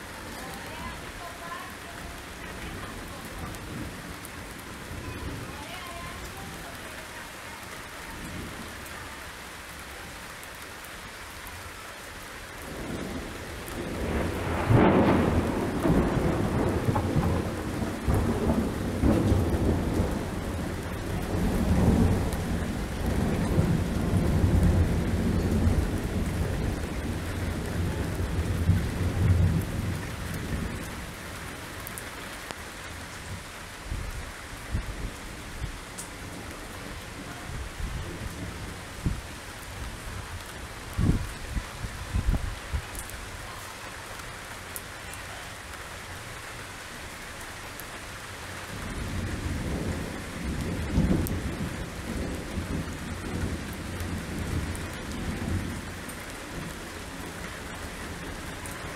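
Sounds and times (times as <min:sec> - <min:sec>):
thunder rumbling: 0:00.0 - 0:07.0, 0:12.6 - 0:43.4, 0:46.9 - 0:58.9
torrential rain: 0:00.0 - 0:58.9.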